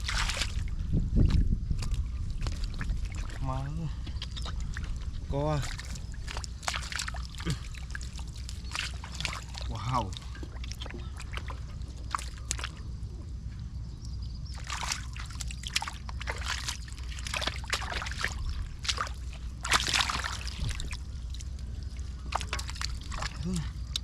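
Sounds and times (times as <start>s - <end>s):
shallow water splashing: 0.0s - 13.1s, 14.4s - 24.0s
steady low rumble: 0.0s - 24.0s.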